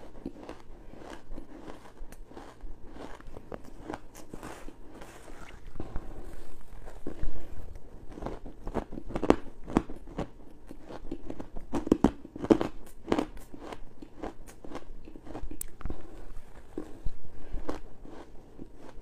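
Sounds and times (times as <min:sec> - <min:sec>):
crunchy chewing of frost: 0:00.0 - 0:19.0.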